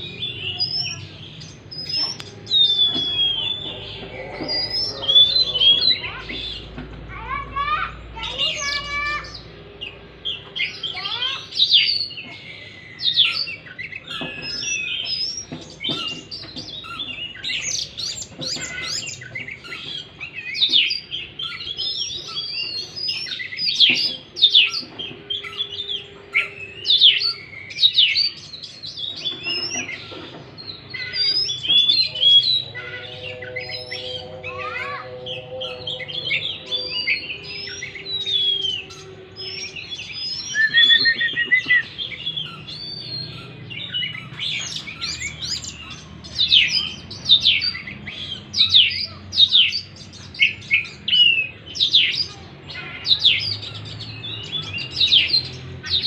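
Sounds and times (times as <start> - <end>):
songbird whistles and trills: 1.7 - 6.7, 9.8 - 52.3.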